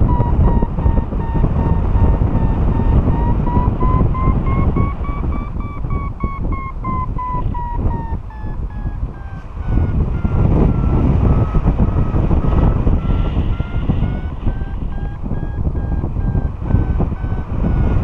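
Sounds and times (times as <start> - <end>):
variometer beeping rapidly: 0.0 - 18.0
wind rush on microphone: 0.0 - 18.0.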